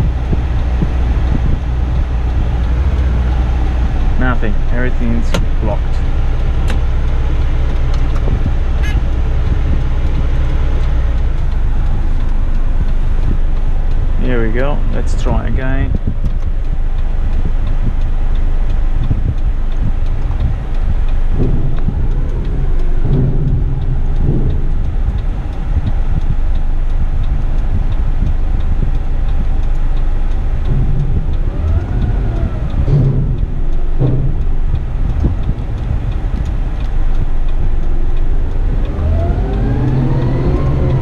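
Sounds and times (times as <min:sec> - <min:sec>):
truck diesel engine rumbling: 0:00.0 - 0:41.0.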